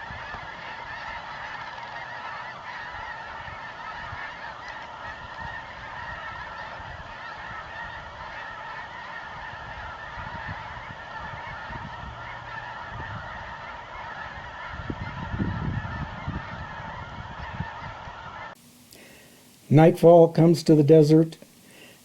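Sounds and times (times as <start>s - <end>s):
geese honking chorus: 0.0s - 19.2s.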